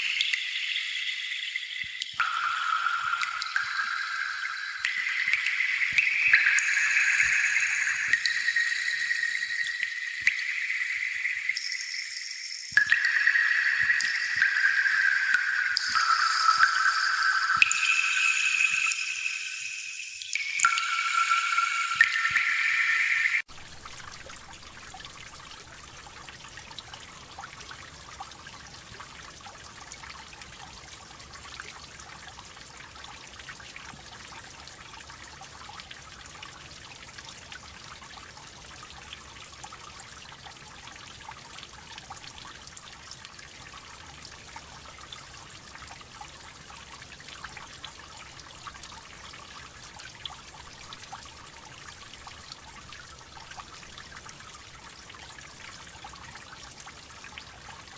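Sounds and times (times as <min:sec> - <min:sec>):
water dripping and trickling: 0:00.0 - 0:57.9.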